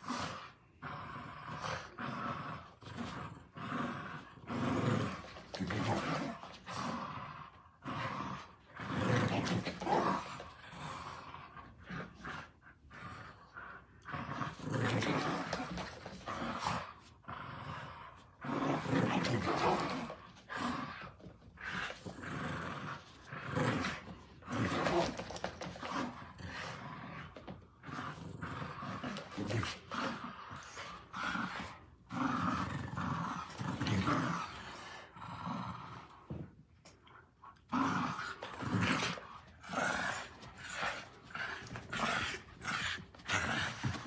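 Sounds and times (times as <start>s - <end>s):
small dogs growling: 0.0s - 44.0s.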